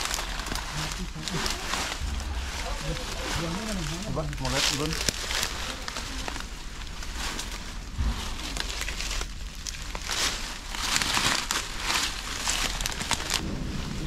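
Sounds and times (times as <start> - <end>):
leaves crunching underfoot: 0.0 - 14.0.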